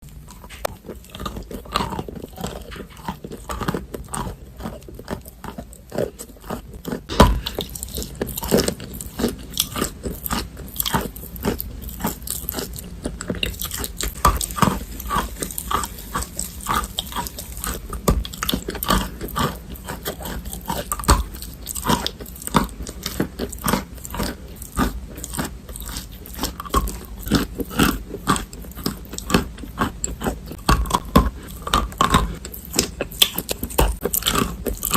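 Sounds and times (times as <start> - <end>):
chalk being chewed: 0.0 - 34.9.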